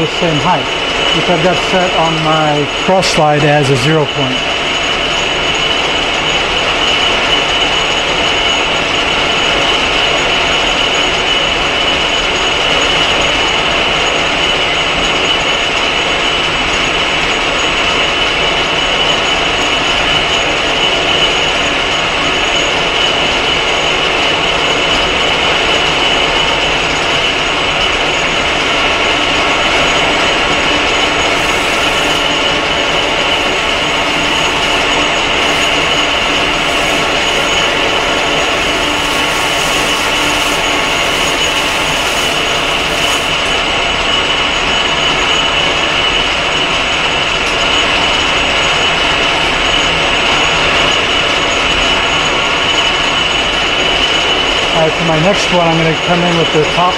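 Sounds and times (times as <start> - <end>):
high machine whine: 0.0 - 56.9
metal lathe running: 0.0 - 56.9.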